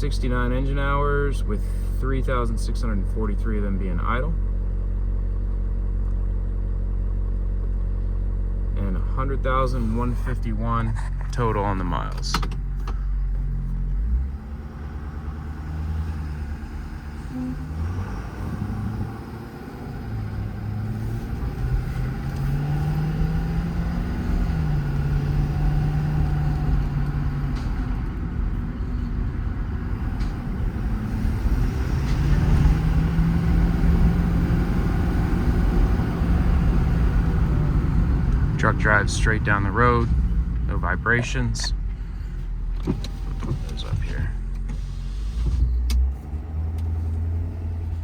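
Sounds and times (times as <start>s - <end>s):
diesel truck engine accelerating: 0.0s - 48.0s.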